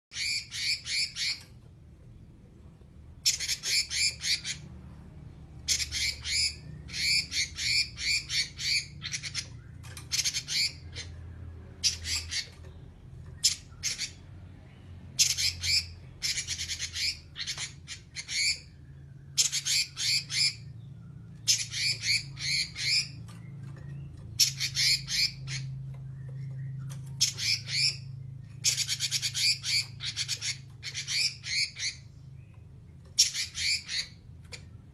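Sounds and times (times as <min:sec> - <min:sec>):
faint low hum: 0:00.1 - 0:34.9.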